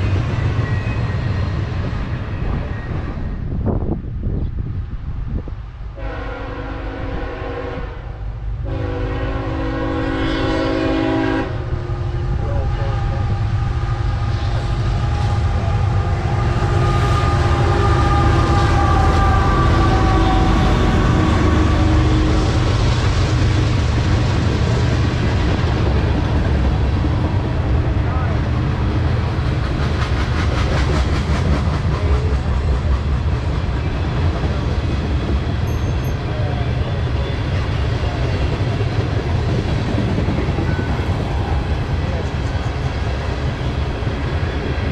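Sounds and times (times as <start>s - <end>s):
diesel locomotive engine rumble: 0.0s - 44.9s.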